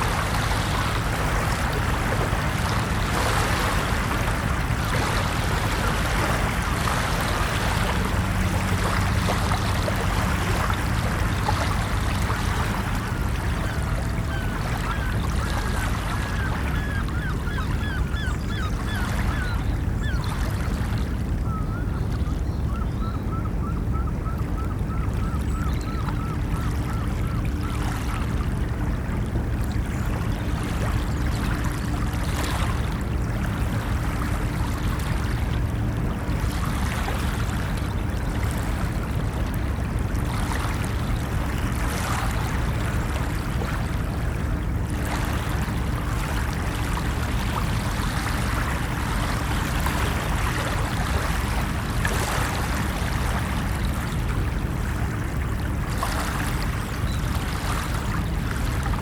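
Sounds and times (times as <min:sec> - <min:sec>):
ocean waves washing in: 0:00.0 - 0:21.6, 0:24.6 - 0:59.0.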